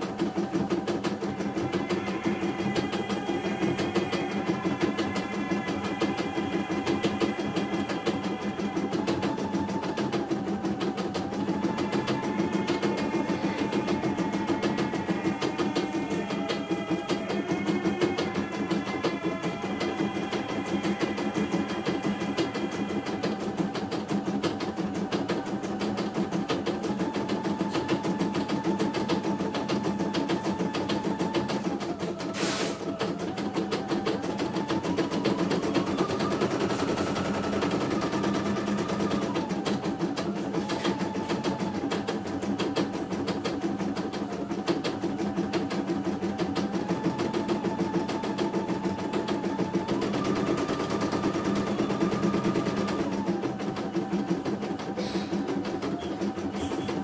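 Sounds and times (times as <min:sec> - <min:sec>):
embroidery machine stitching: 0:00.0 - 0:57.0.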